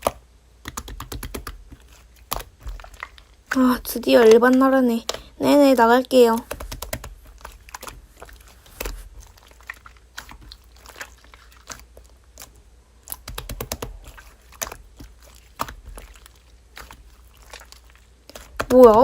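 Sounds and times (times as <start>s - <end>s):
wet clicks and crackly pops: 0.0s - 5.4s, 6.2s - 19.0s.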